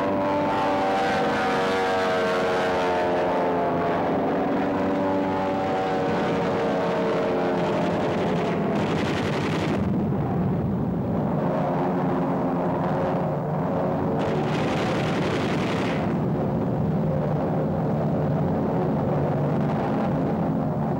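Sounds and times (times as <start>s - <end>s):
propeller aircraft engines droning: 0.0s - 20.9s
deep dense rumble: 3.0s - 20.9s.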